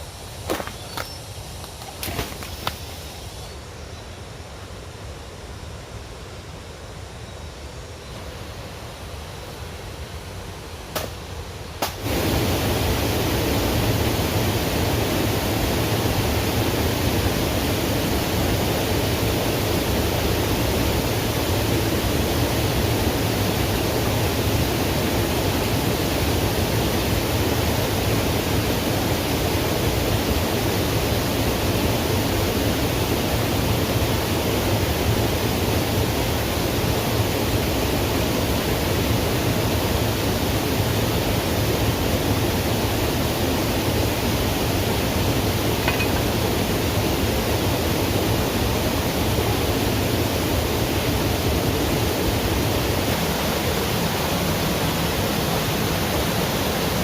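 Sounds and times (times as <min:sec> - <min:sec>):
steady rushing noise: 0:07.8 - 0:57.0.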